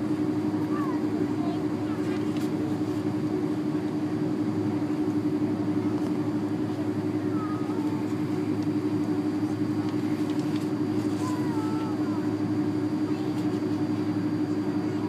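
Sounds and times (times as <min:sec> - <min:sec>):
cabin rumble: 0:00.0 - 0:15.0
jet engines idling hum: 0:00.0 - 0:15.0.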